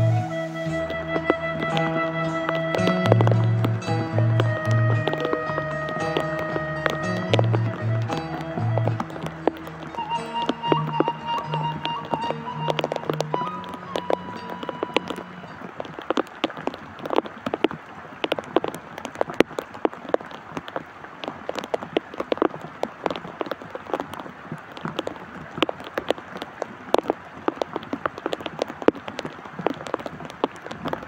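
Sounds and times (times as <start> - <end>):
rain falling: 0.0 - 31.0
raindrops hitting close by: 0.0 - 31.0.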